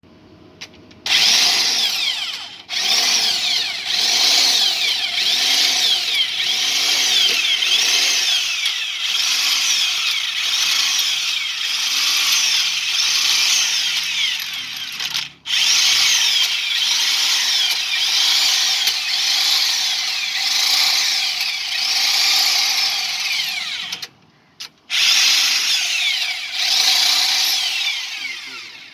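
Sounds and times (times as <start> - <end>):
handheld power tool running: 1.1 - 24.1, 24.9 - 28.9.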